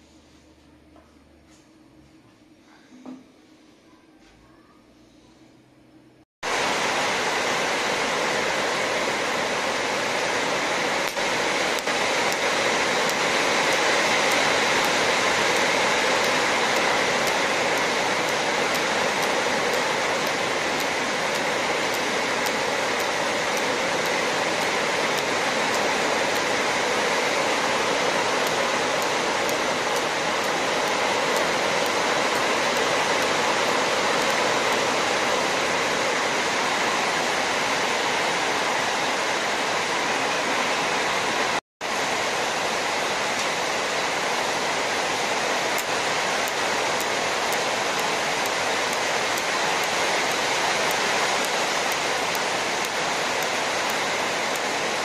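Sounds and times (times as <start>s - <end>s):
welding arc hissing: 6.4s - 55.0s.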